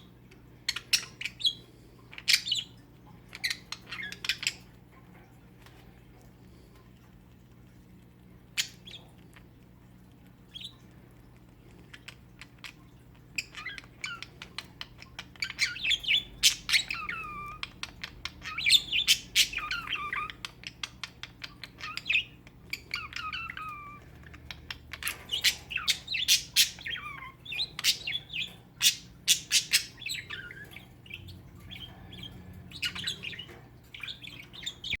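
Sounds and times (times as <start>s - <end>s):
budgies chirping and squawking: 0.0s - 4.8s, 8.5s - 9.5s, 11.7s - 35.0s.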